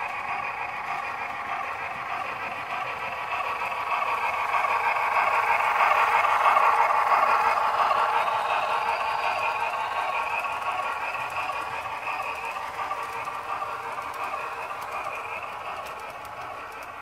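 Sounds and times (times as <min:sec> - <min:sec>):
model train whirring rumble: 0:00.0 - 0:17.0.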